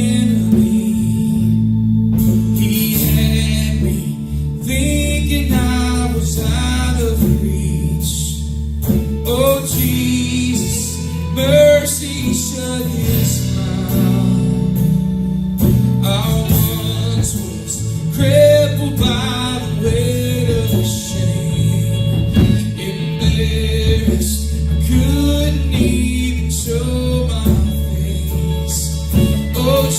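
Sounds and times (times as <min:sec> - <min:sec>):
band playing with guitar: 0:00.0 - 0:29.9
person singing: 0:00.0 - 0:29.9.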